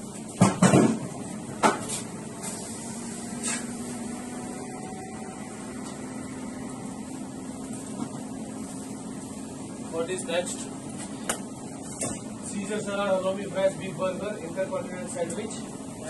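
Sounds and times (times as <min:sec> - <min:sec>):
extraction hood hum: 0:00.0 - 0:16.0.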